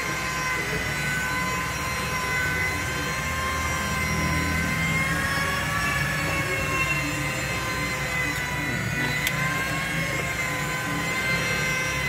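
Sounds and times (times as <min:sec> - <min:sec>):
machine whine: 0:00.0 - 0:12.0.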